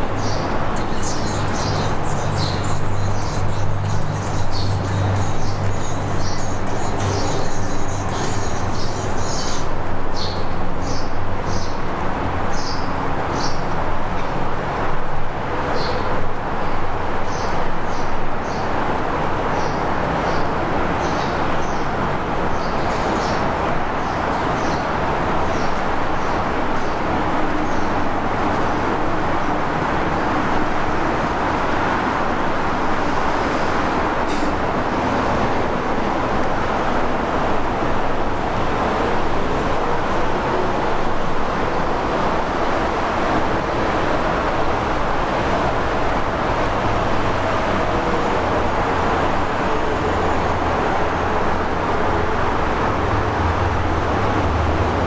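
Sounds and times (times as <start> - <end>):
vehicles rushing: 0.0 - 55.0.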